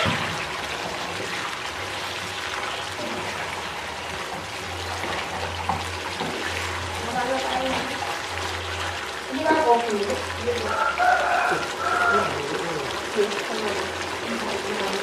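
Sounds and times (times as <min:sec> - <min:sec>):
broth bubbling in a pan: 0:00.0 - 0:15.0.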